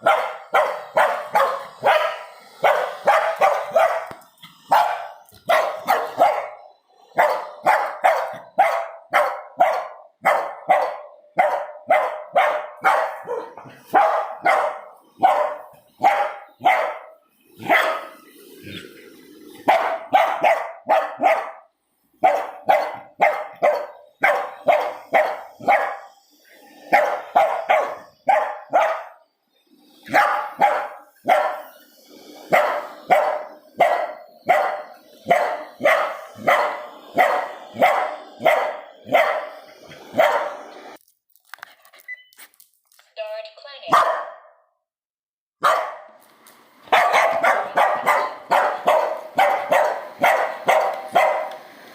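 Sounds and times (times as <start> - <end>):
dog barking: 0.0 - 18.2, 19.6 - 26.1, 26.9 - 29.2, 30.1 - 31.8, 32.5 - 40.7, 43.9 - 44.6, 45.6 - 46.2, 46.9 - 51.6.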